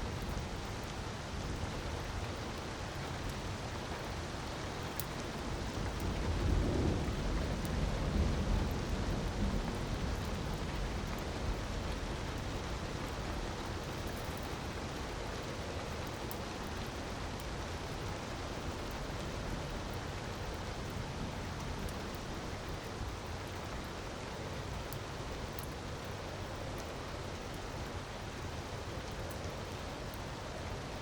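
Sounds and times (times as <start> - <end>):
wood fire crackling: 0.1 - 31.0.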